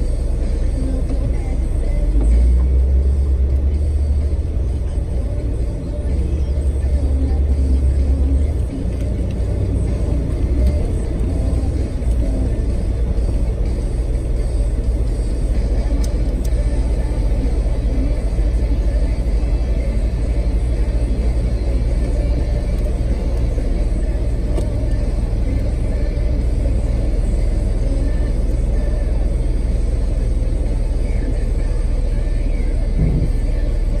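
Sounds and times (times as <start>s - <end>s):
vehicle engine and tyres rumbling: 0.0s - 34.0s.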